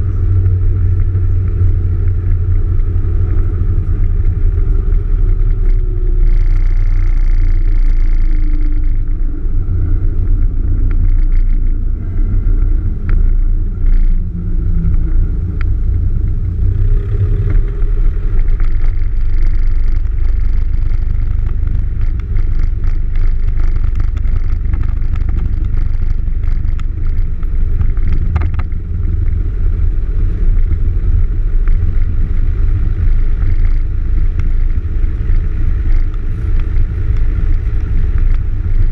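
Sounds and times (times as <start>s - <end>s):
airplane engine low drone: 0.0s - 38.9s.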